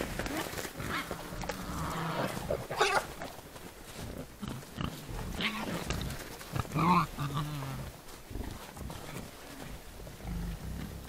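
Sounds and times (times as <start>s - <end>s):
wild boars grunting: 0.0s - 11.0s.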